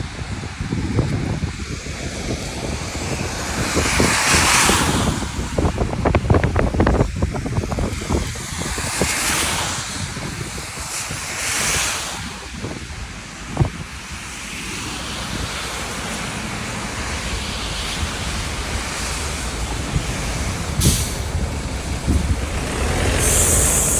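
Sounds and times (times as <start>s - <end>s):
steady rain noise: 0.0s - 23.9s
vehicles swishing on wet road: 0.0s - 23.9s.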